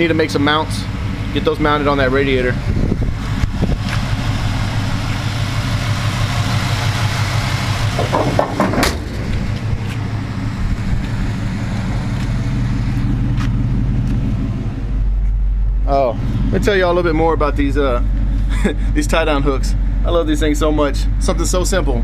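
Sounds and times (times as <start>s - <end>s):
pickup engine idling: 0.0s - 22.0s.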